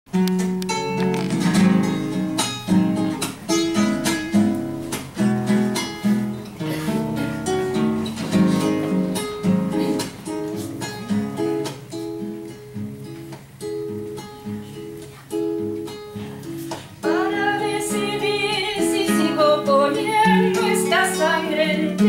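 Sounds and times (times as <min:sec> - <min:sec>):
acoustic guitar strumming: 0:00.1 - 0:22.0.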